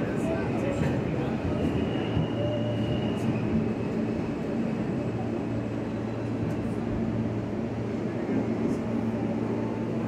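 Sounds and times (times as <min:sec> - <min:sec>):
subway car wheels rumbling: 0:00.0 - 0:10.0.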